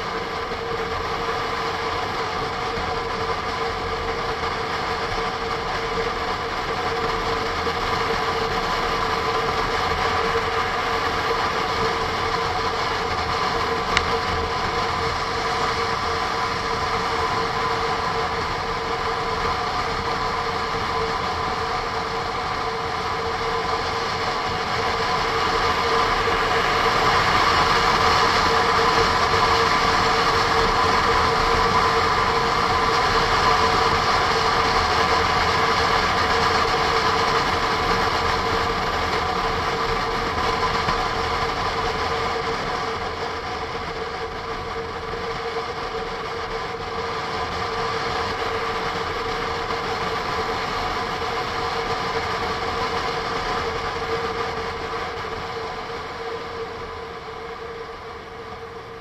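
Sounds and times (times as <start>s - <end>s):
constant whine: 0.0s - 59.0s
motorcycle engine and wind drone: 0.0s - 59.0s.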